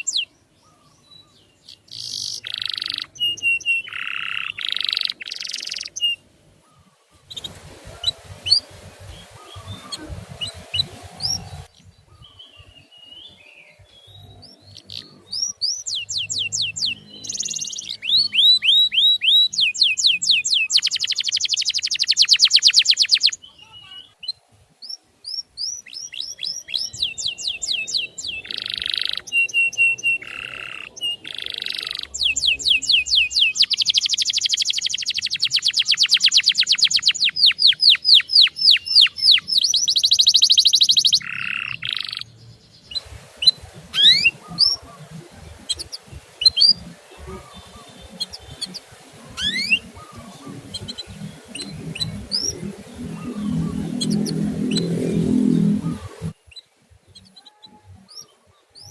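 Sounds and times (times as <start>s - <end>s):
faint background noise: 0.0s - 58.9s
songbird chirping and trilling: 0.0s - 58.9s.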